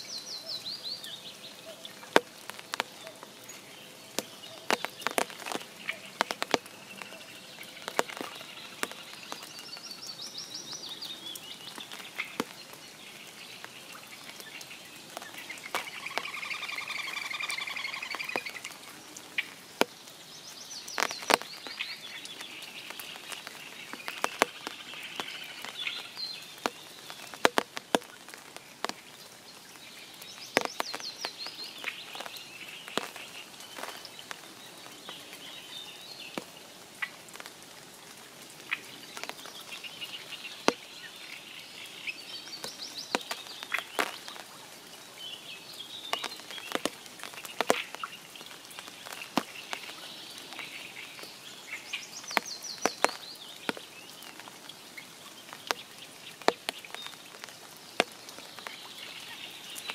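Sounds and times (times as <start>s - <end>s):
big raindrops tapping: 0.0s - 59.9s
light rain patter: 0.0s - 59.9s
songbirds chirping: 0.0s - 59.9s.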